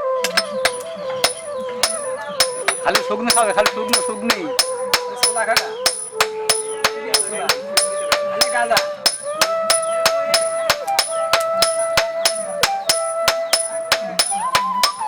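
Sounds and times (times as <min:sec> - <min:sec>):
hammer striking steel on anvil: 0:00.2 - 0:15.0.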